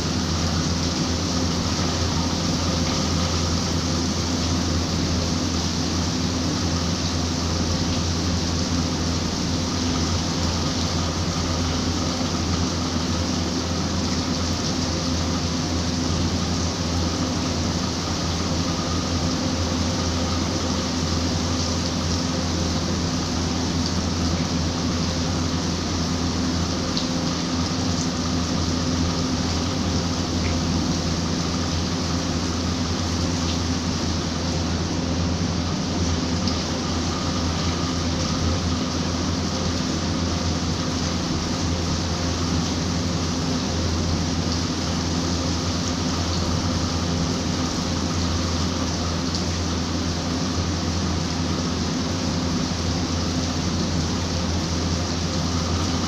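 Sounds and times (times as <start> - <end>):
constant low hum: 0.0 - 56.0
steady rain falling: 0.0 - 56.0.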